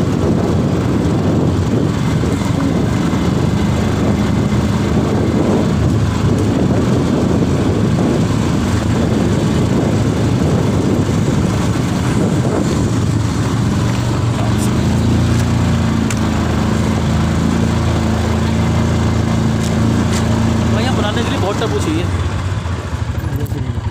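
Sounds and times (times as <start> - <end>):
quad bike engine running: 0.0 - 23.9.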